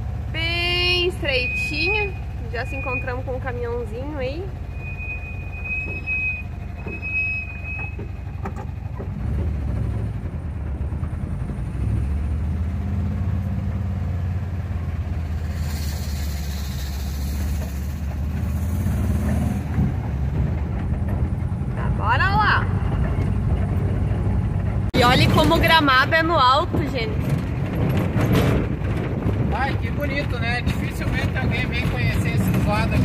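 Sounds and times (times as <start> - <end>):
van engine running: 0.0 - 33.0.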